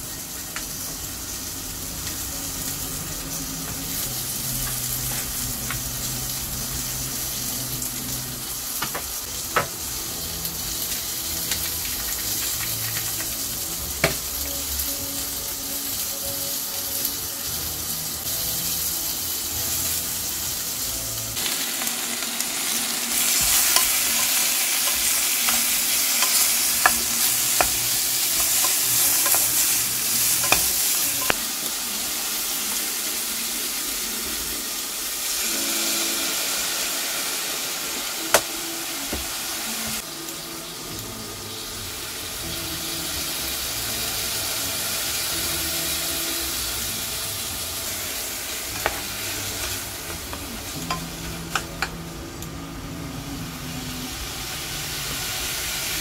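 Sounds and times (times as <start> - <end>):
sausage and onion sizzling: 0.0 - 56.0.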